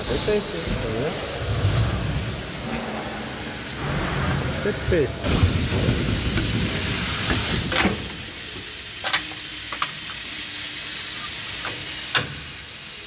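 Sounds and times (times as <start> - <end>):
machine steady high hiss: 0.0 - 13.0.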